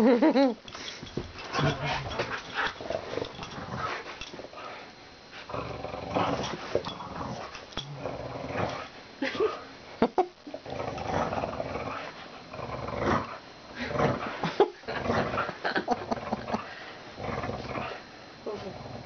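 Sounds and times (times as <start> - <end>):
dog growling: 1.4 - 4.0, 5.4 - 9.7, 10.5 - 19.0.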